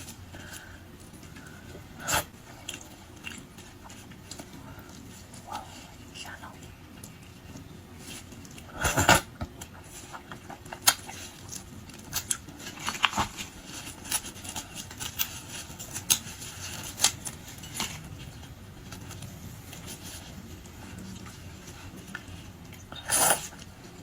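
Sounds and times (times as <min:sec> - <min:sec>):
shrimp being peeled and chewed: 0:00.0 - 0:24.0.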